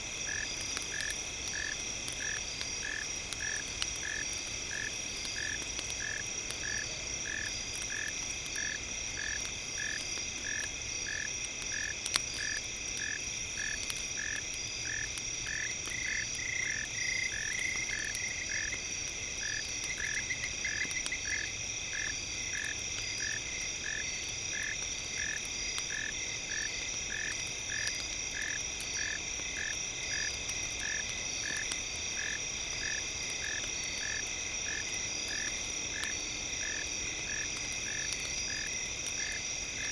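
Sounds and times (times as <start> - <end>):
campfire crackle: 0.0 - 39.9.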